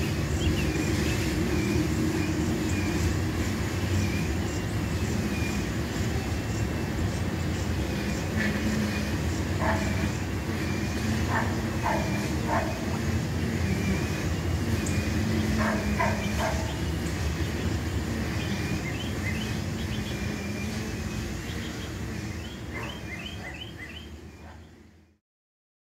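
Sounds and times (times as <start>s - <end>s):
birds chirping: 0.0s - 25.1s.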